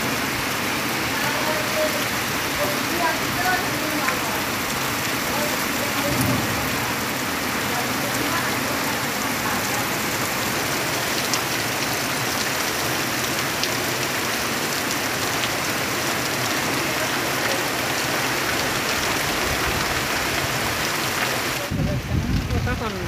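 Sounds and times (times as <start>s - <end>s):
heavy rain on foliage: 0.0s - 23.0s.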